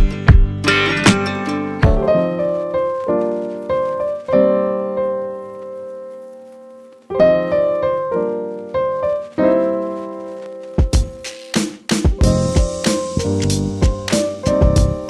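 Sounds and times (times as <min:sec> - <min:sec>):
slow piano music: 0:00.0 - 0:11.4, 0:12.1 - 0:15.0.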